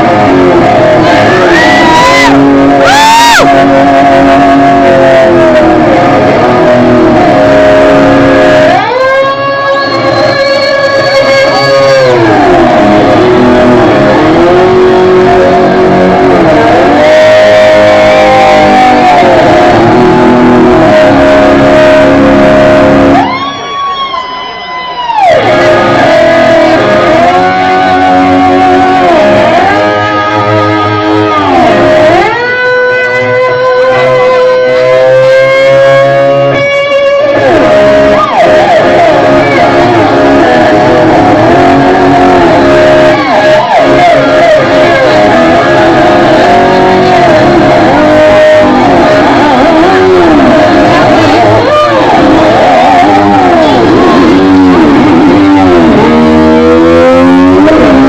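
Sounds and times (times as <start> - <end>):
electric slide guitar gliding notes: 0.0 - 58.0.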